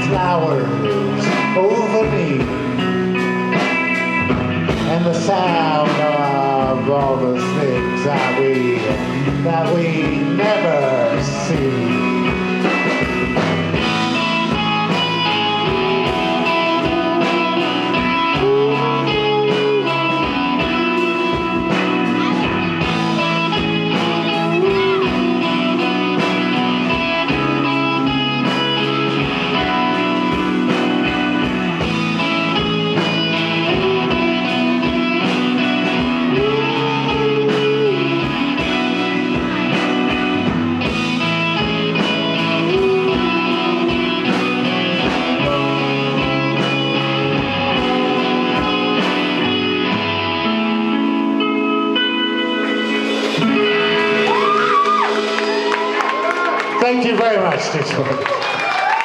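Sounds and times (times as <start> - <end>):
repeating bass line: 0.0 - 57.4
electric guitar bending notes: 0.0 - 59.0
steady drums: 0.0 - 59.0.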